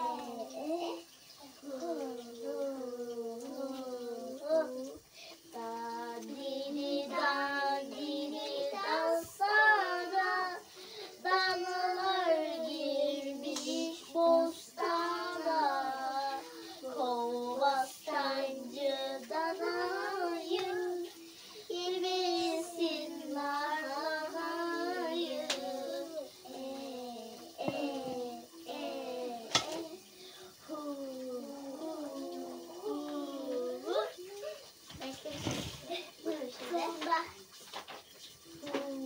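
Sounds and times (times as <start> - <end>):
child singing: 0.0 - 37.4, 38.6 - 39.0.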